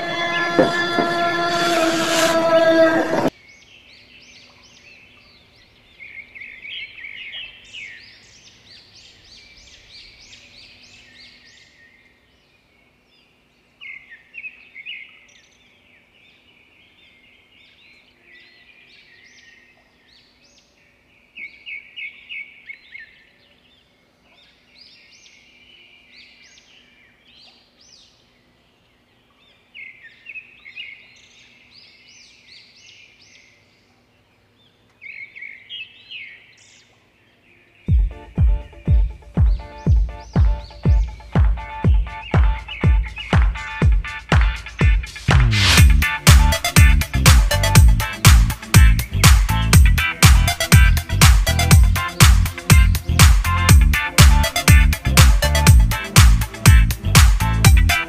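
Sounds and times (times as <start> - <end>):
small birds chirping: 3.3 - 58.0.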